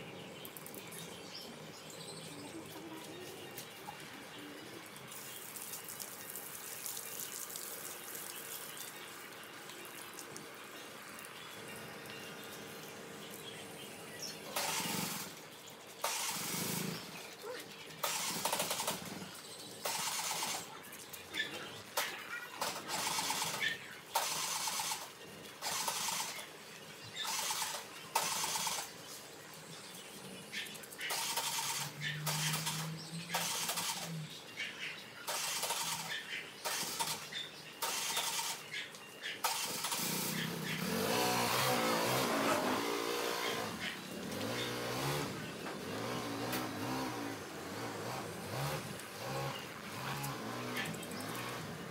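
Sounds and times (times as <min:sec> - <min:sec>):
hose water spraying: 0:02.4 - 0:29.7, 0:30.5 - 0:34.2, 0:35.3 - 0:51.9.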